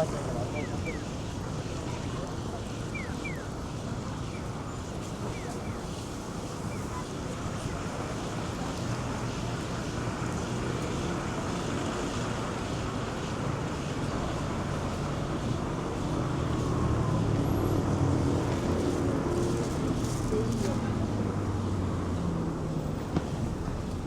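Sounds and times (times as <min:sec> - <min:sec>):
low engine rumble: 0:00.0 - 0:24.0
passing vehicles: 0:00.0 - 0:24.0.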